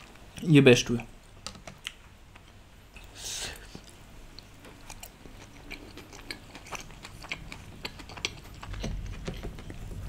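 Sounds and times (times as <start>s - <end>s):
wet chewing and mouth clicks: 1.7s - 10.0s.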